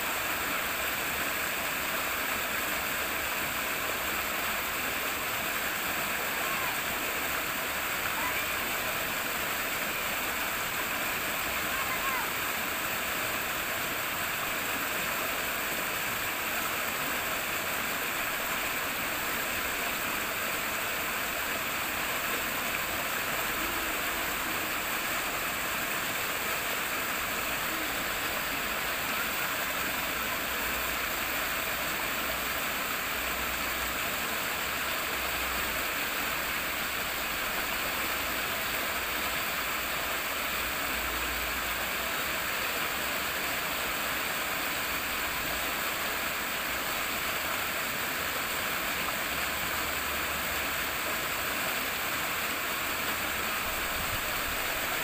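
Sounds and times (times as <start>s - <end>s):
water rippling and rushing: 0.0s - 55.0s.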